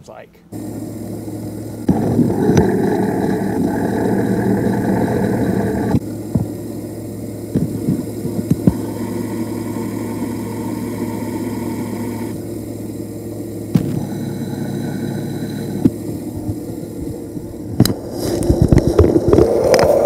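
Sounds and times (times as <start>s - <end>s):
pulley rough rumbling hum: 0.5s - 20.0s.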